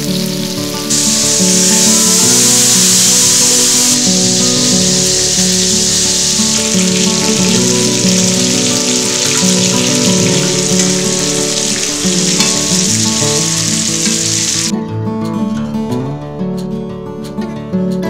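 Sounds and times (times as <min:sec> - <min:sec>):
food sizzling in a frying pan: 0:00.0 - 0:14.7
acoustic guitar music: 0:00.0 - 0:18.0.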